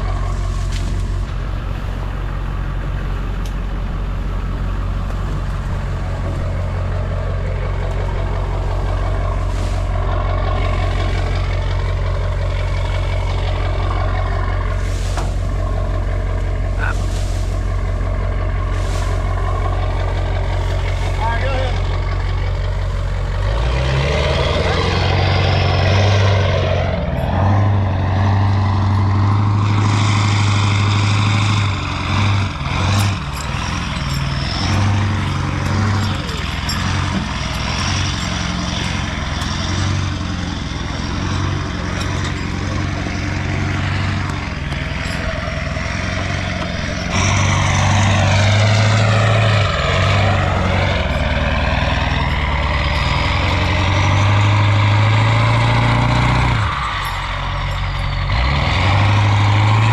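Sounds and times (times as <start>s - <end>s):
vehicle engine under load: 0.0s - 59.9s.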